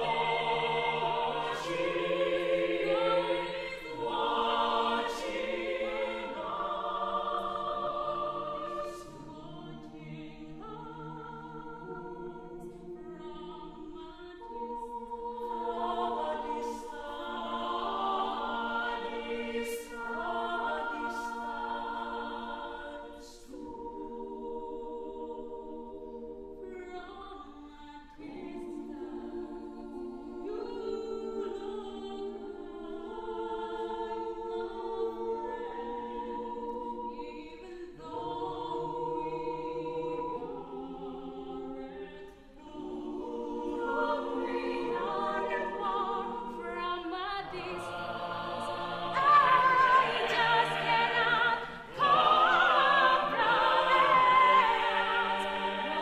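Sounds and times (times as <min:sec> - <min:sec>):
mixed choir singing in harmony: 0:00.0 - 0:56.0.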